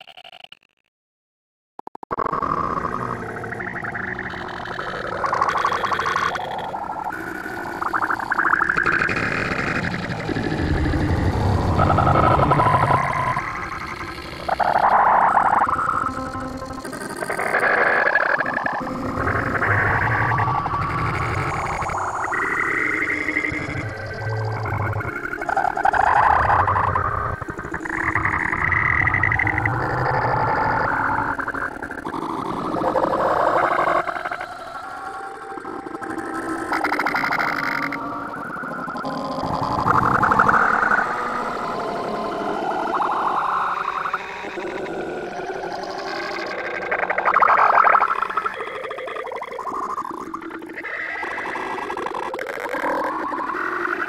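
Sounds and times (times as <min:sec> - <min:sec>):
distorted warbling drone: 0:02.1 - 0:54.0
warped pitch-shifted cartoon audio: 0:02.1 - 0:54.0.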